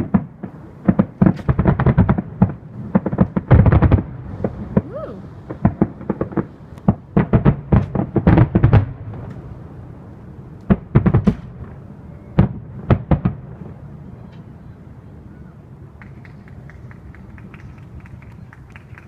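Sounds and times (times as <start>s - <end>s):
fireworks popping and crackling: 0.0s - 9.6s, 10.5s - 11.8s, 12.4s - 14.5s, 16.0s - 19.0s.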